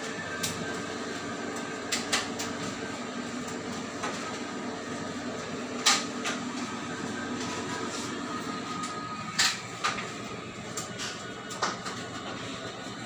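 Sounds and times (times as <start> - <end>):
chiller mechanical hum: 0.0 - 13.0.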